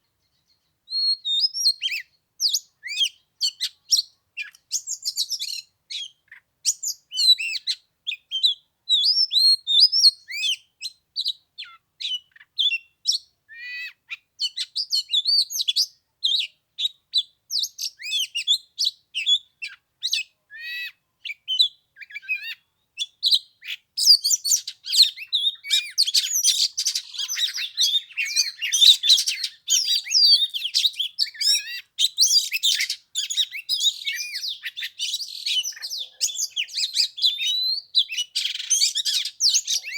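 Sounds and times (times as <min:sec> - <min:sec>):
songbird singing whistled notes: 0:00.0 - 0:39.9.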